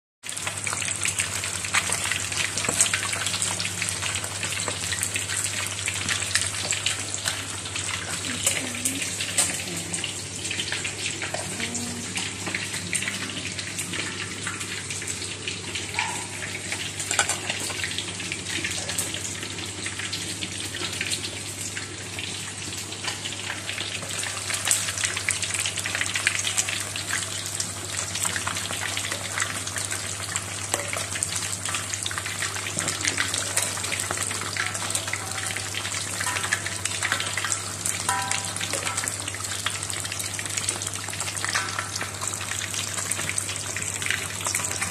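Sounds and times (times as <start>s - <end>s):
fish deep-frying in oil: 0.2s - 44.9s.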